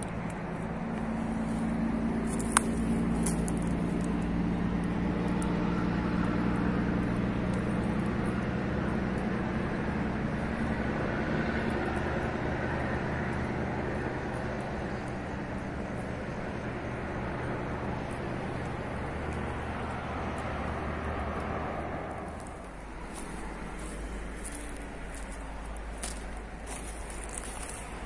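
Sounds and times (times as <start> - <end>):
low engine hum: 0.0 - 28.0
outdoor background noise: 0.0 - 28.0.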